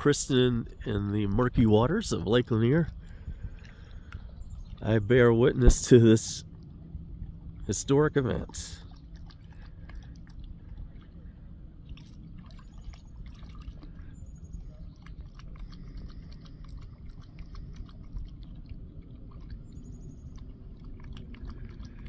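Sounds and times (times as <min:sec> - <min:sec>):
dog lapping water: 0:00.0 - 0:22.0.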